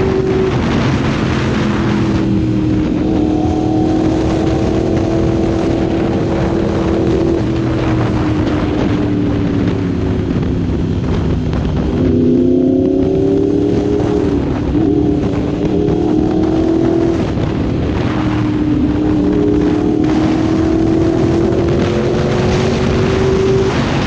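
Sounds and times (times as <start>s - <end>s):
motorcycle engine: 0.0s - 24.0s
wind rush on microphone: 0.0s - 24.0s.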